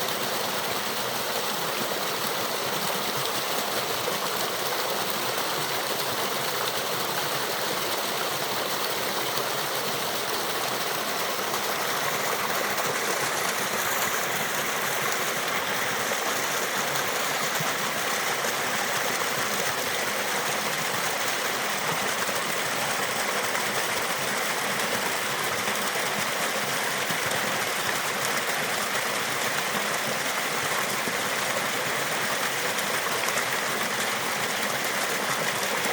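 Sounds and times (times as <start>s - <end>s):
stream and waterfall rushing: 0.0s - 35.9s.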